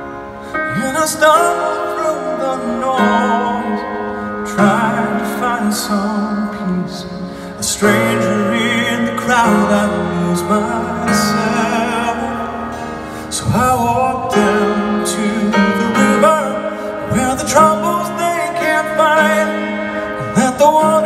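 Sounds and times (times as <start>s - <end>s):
man singing with vibrato: 0.6s - 21.0s.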